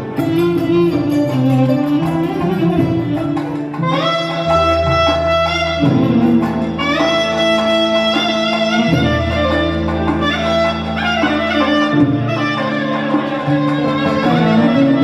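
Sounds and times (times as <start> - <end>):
saxophone-like keyboard melody: 0.0 - 15.0
sustained bass notes: 0.0 - 15.0.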